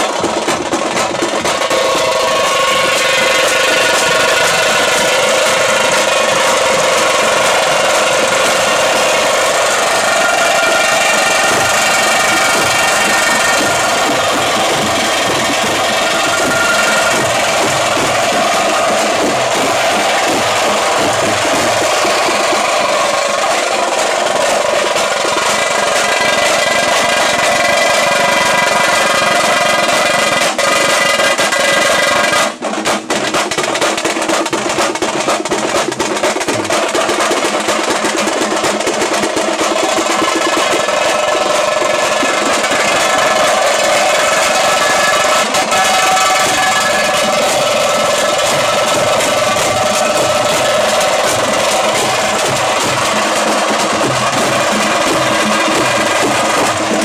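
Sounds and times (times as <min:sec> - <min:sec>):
frame drums beaten with sticks: 0:00.0 - 0:57.0.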